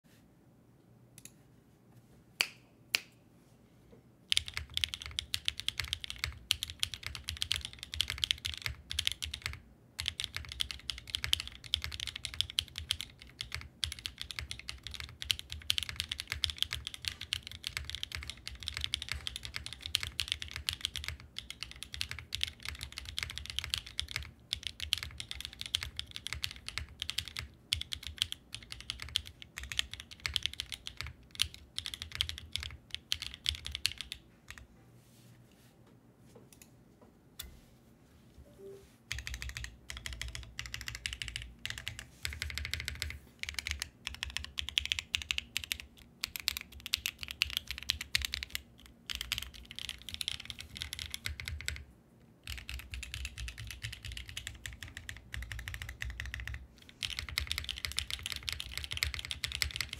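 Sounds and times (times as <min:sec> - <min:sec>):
mechanical keyboard typing: 0:04.3 - 0:34.6, 0:39.1 - 0:51.8, 0:52.4 - 0:59.9.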